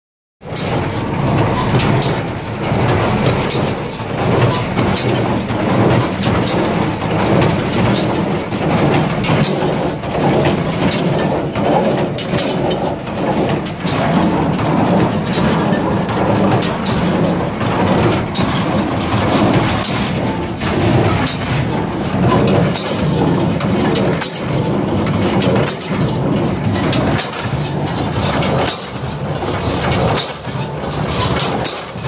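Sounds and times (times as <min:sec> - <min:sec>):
baler mechanical clatter: 0:00.4 - 0:32.0.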